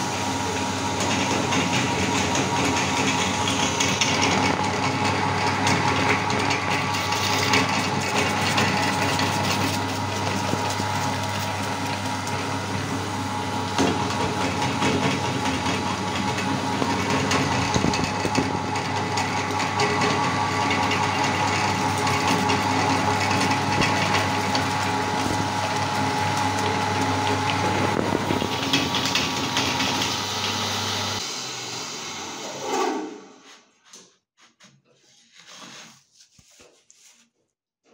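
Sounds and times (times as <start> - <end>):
meat grinder motor hum: 0.0 - 32.6.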